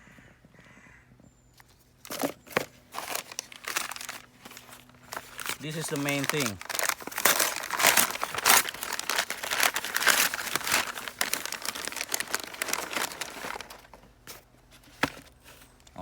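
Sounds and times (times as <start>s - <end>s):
packaging crinkling and rustling: 1.6s - 16.0s.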